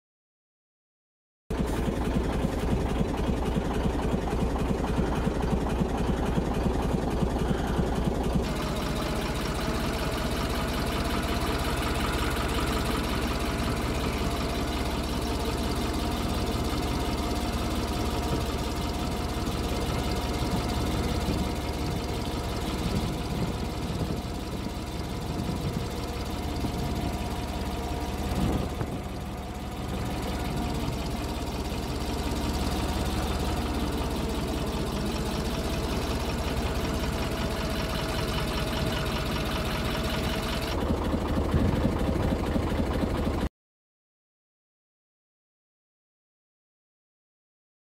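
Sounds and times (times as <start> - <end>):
vehicle engine idling: 1.5 - 43.5.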